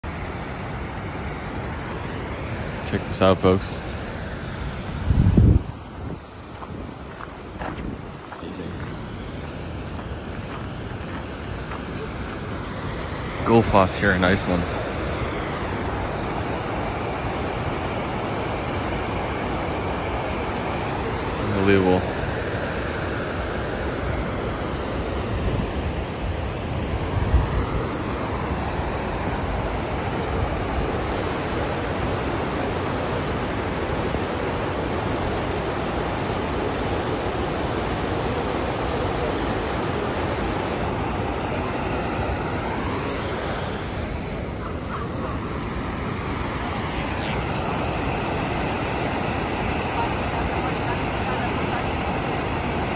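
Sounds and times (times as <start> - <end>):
waterfall rushing: 5.7 - 52.9.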